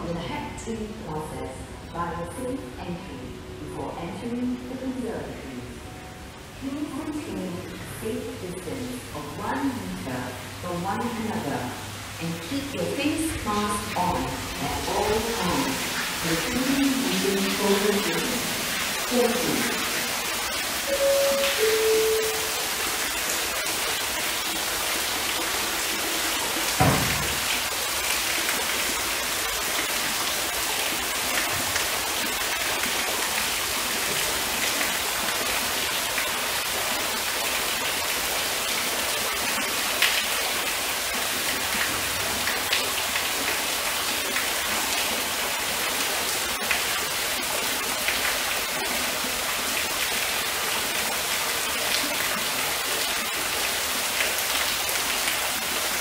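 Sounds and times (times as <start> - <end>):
waterfall splashing: 9.4 - 56.0.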